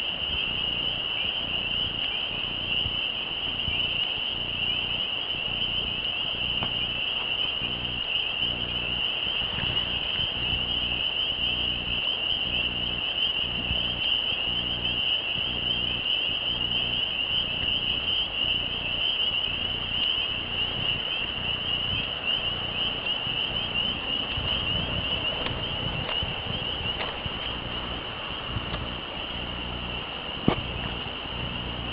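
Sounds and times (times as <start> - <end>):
crickets trilling: 0.0 - 31.9
low pulsing rumble: 0.0 - 31.9.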